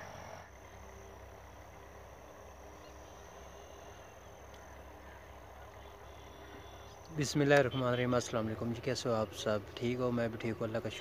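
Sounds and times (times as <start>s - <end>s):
distant motor rumble: 0.0s - 11.0s
thin high steady tone: 0.0s - 11.0s.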